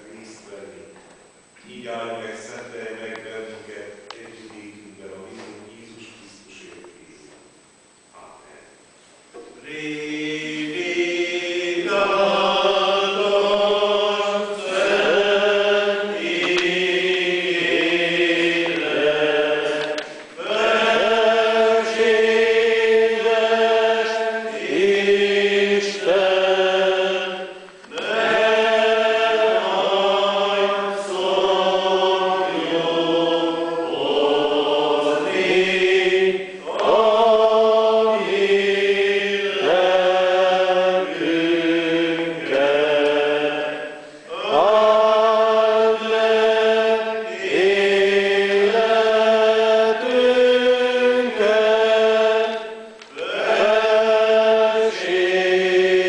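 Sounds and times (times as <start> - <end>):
congregation singing a hymn: 9.3 - 56.0.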